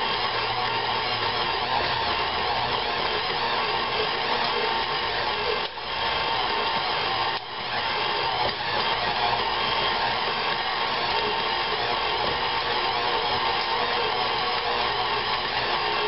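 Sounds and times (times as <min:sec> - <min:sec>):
stand mixer kneading dough: 0:00.0 - 0:16.0.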